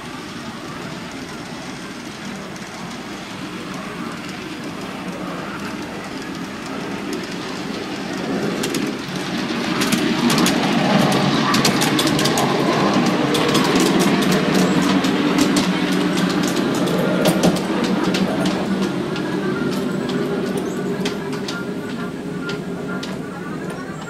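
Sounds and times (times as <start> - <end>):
miniature train running on track: 0.0 - 24.0
wheels clicking on rails: 0.0 - 24.0.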